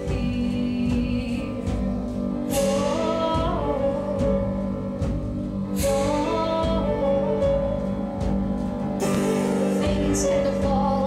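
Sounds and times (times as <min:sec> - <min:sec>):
musical theatre accompaniment: 0:00.0 - 0:11.0
soft percussive hits: 0:00.0 - 0:11.0.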